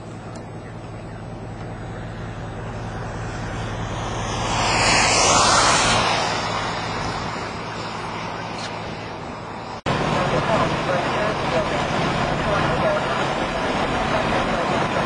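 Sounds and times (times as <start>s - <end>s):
low hum: 0.0s - 15.0s
wind noise: 1.6s - 15.0s
vehicle passing by: 1.8s - 14.8s.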